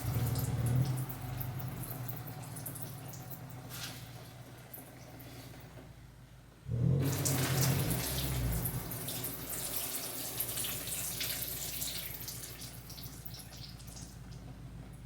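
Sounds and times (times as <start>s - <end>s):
fluid pouring and splashing: 0.0s - 5.5s, 7.0s - 14.4s.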